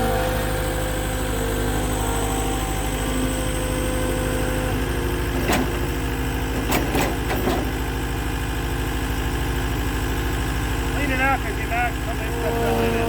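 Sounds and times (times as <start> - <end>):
machine engine idling: 0.0 - 13.0.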